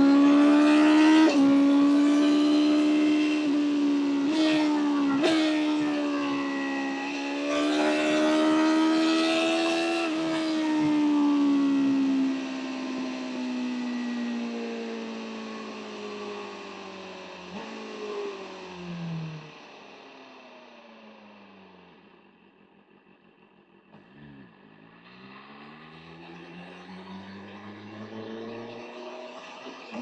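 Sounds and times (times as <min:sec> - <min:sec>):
motorcycle engine revving: 0:00.0 - 0:22.2, 0:23.9 - 0:30.0.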